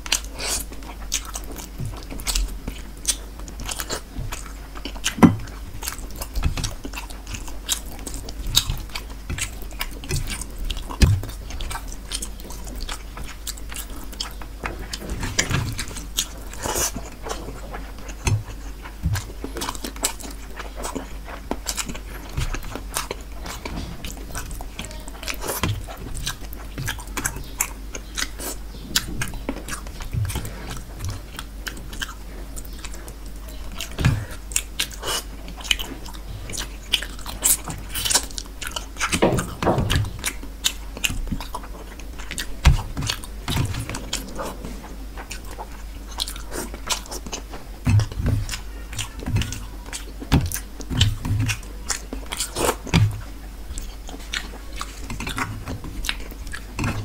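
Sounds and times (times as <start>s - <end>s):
close chewing with crunches: 0.0s - 57.0s.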